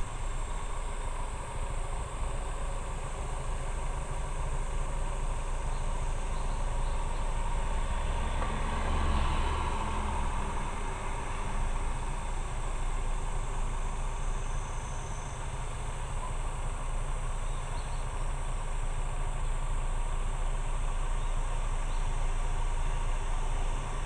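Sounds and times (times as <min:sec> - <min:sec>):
motorcycle engine rumbling: 0:00.0 - 0:24.0
wind and road noise: 0:00.0 - 0:24.0.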